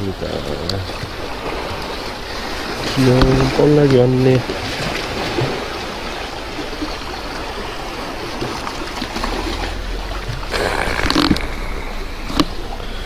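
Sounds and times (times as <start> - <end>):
seawater washing over rocks: 0.0 - 13.0.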